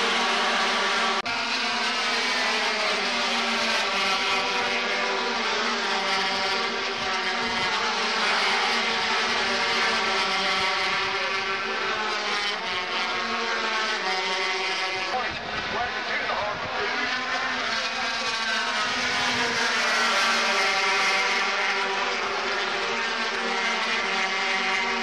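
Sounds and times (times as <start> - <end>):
racing motorcycle engines: 0.0 - 25.0.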